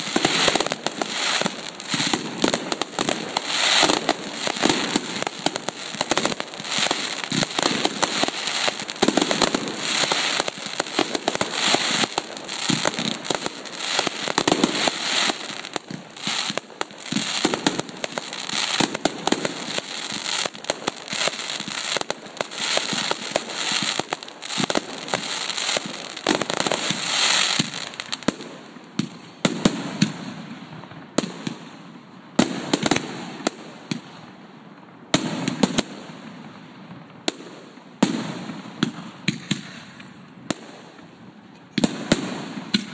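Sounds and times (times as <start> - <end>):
fireworks bursts and crackling: 0.0 - 42.9.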